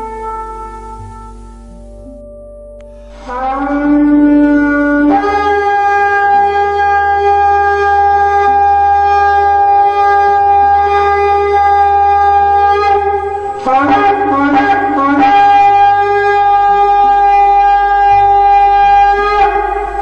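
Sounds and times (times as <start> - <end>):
shofar blast: 0.0 - 1.7, 2.9 - 20.0.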